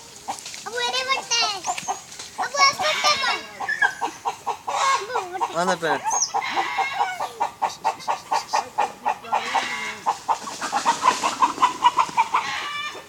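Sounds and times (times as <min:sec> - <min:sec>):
chicken clucking: 0:00.3 - 0:13.0.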